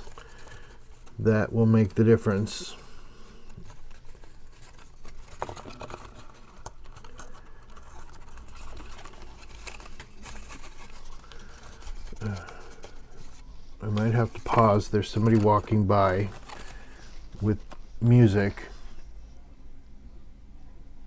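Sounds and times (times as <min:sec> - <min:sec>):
paper rustling and scraping: 0:00.0 - 0:19.1.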